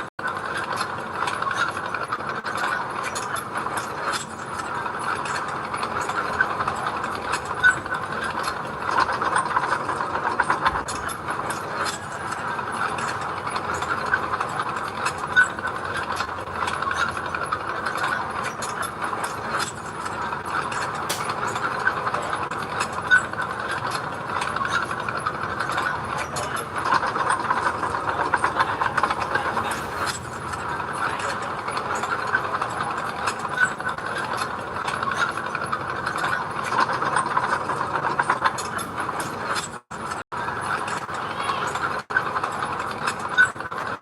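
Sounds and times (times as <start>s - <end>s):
metallic rattling and clatter: 0.0s - 44.0s.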